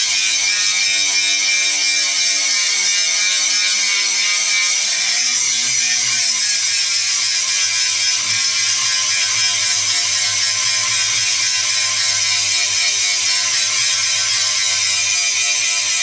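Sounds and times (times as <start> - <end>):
angle grinder grinding steel: 3.0 - 16.0.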